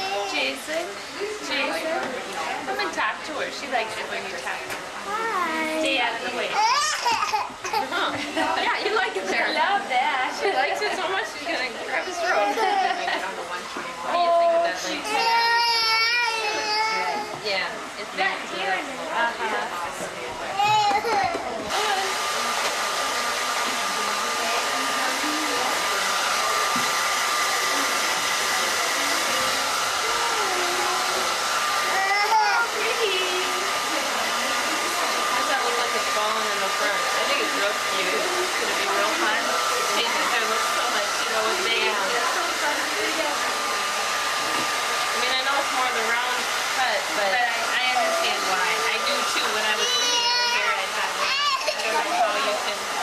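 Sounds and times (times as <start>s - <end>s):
hair dryer running: 0.0s - 5.1s, 5.8s - 53.0s.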